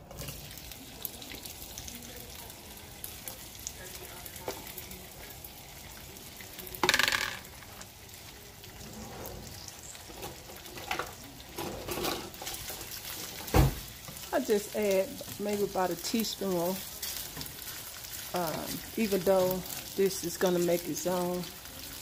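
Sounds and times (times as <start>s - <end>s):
bacon sizzling in a skillet: 0.0s - 22.0s.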